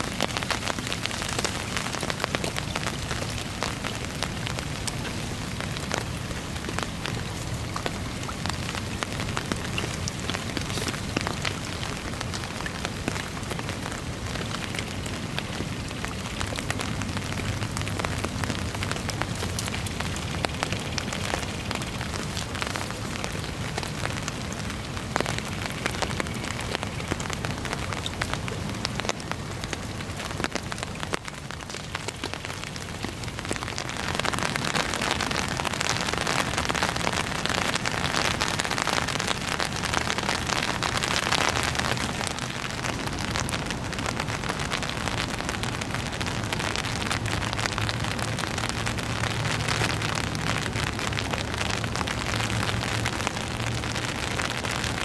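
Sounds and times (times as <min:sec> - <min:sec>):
rain falling on water: 0:00.0 - 0:55.0
raindrops ticking: 0:00.0 - 0:55.0.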